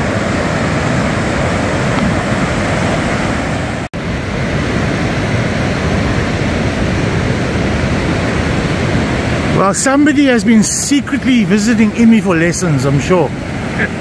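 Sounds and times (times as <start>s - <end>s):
surf breaking on beach: 0.0s - 14.0s
wind rumbling on microphone: 0.0s - 14.0s.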